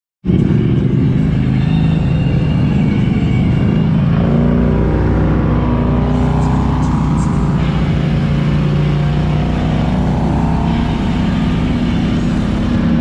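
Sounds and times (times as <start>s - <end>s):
atv engine running: 0.3s - 13.0s.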